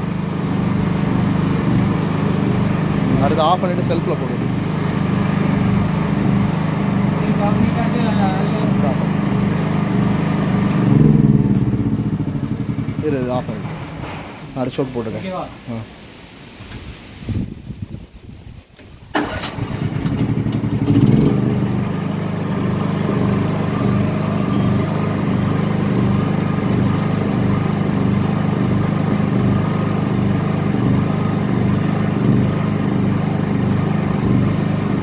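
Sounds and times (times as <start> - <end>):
generator engine starting and running: 0.0 - 15.5, 19.1 - 35.0.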